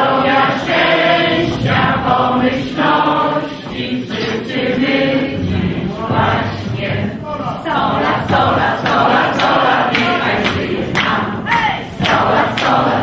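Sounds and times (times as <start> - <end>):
many voices singing in unison: 0.0 - 13.0.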